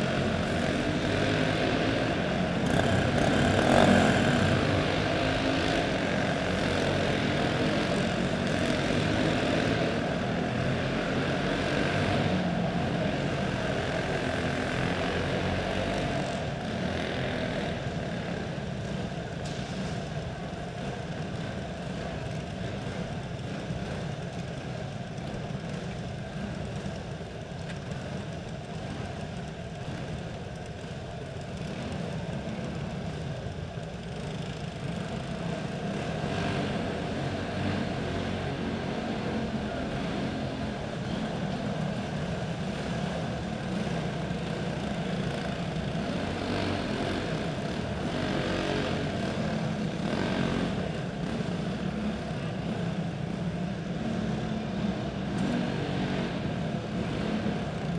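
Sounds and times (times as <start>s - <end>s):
kart engines droning: 0.0s - 57.9s.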